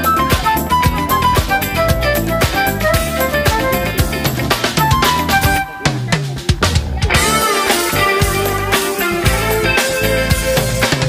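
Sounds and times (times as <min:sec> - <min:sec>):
music with steady beat: 0:00.0 - 0:11.0.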